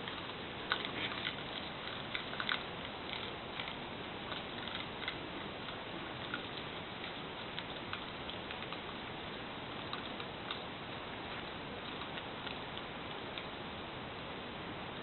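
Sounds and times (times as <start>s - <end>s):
animals crunching food: 0.0s - 13.6s
steady hiss: 0.0s - 15.0s.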